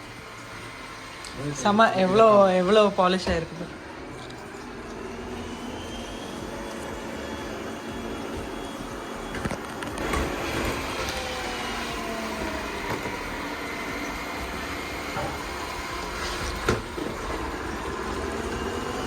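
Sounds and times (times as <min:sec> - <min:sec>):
robot vacuum whirring: 0:00.0 - 0:19.0.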